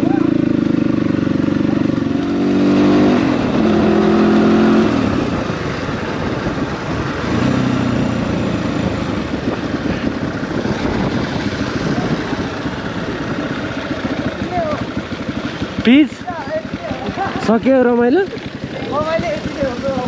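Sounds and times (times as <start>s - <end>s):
dirt bike engine: 0.0s - 20.0s
steady rushing noise: 1.1s - 20.0s.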